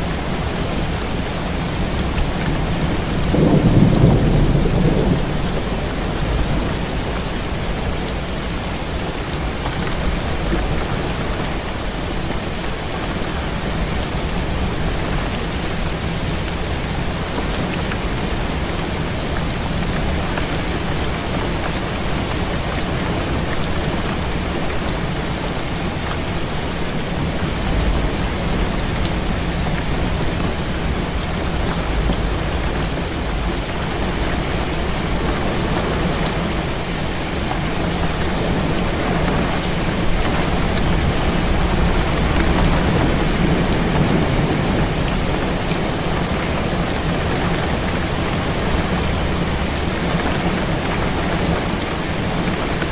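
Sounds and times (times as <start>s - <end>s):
heavy rain on a window: 0.0s - 52.9s.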